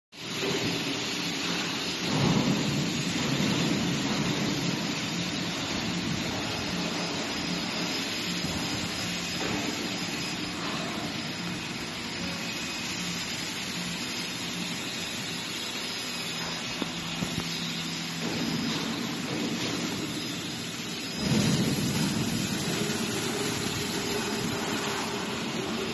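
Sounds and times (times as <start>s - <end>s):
rushing hiss: 0.2s - 25.9s.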